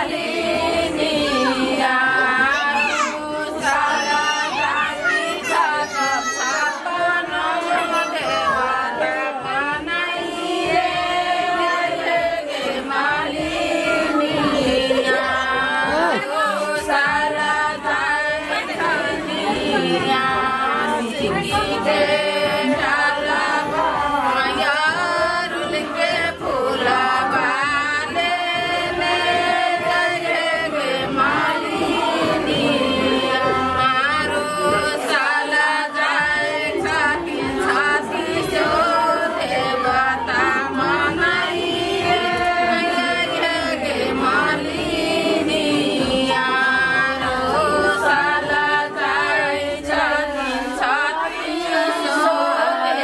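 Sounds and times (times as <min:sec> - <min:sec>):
women singing together: 0:00.0 - 0:53.0.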